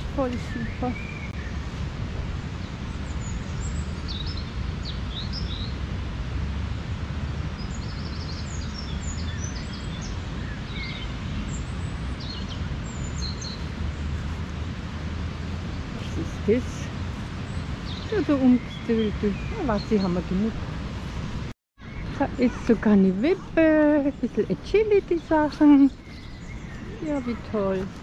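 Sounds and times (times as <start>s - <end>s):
songbirds chirping: 0.0s - 28.0s
steady low rumble: 0.0s - 28.0s.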